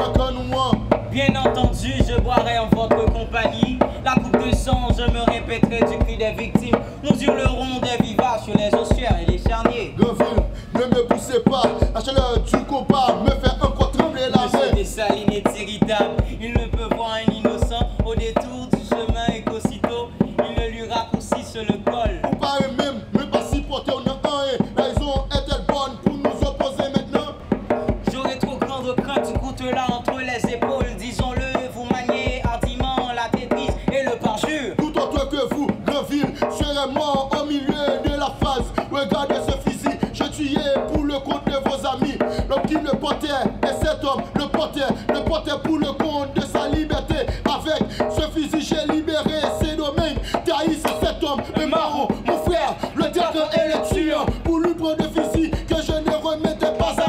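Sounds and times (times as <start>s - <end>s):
hand drum beating: 0.0s - 57.0s
man chanting: 0.0s - 57.0s
man declaiming rhythmically: 0.0s - 57.0s.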